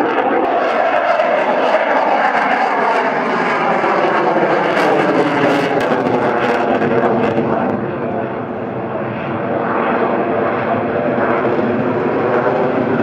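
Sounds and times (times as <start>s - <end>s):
jet engine roar in afterburner: 0.0s - 13.0s.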